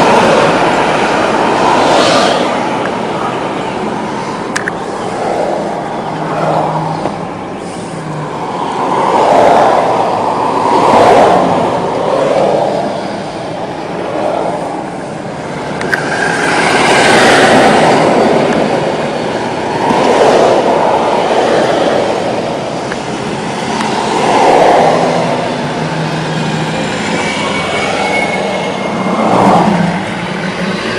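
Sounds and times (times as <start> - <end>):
rushing vehicle noise: 0.0 - 30.9.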